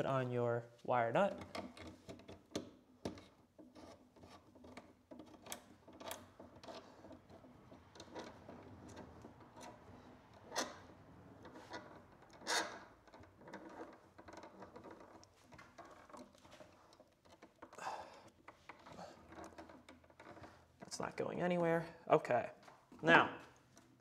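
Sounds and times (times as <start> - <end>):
wire nut scraping and clicking: 1.3 - 21.0, 22.6 - 24.0.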